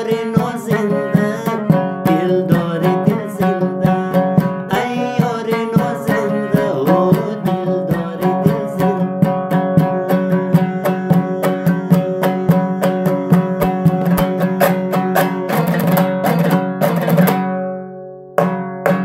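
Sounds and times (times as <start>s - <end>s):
plucked string instrument notes: 0.0s - 19.0s
strummed chords ringing: 0.0s - 19.0s.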